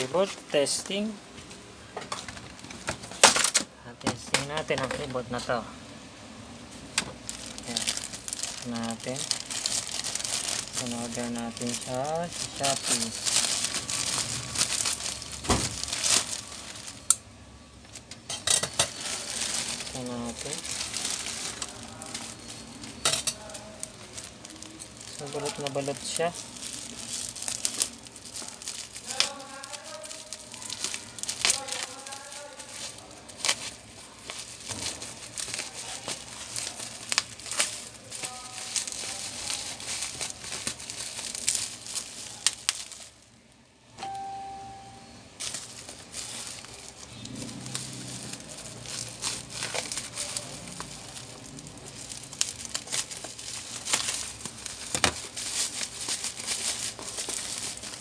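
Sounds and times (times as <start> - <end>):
bubble wrap crinkling and crackling: 6.7 - 58.0.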